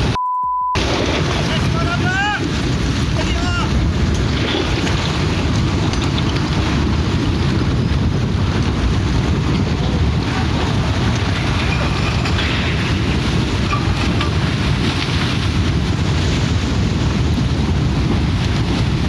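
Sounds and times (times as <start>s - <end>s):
rough water rushing: 0.8s - 19.0s
wind buffeting microphone: 0.8s - 19.0s.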